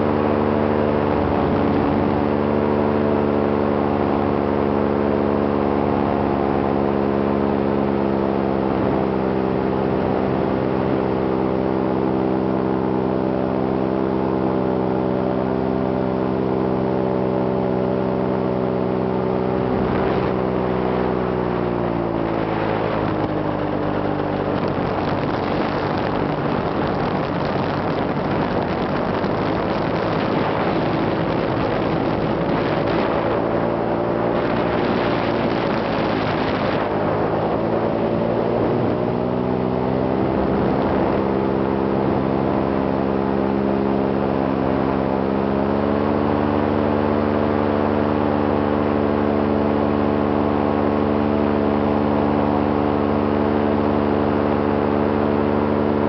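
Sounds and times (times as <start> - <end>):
wind rush: 0.0 - 12.5, 17.1 - 56.0
small aircraft engine drone: 0.0 - 56.0.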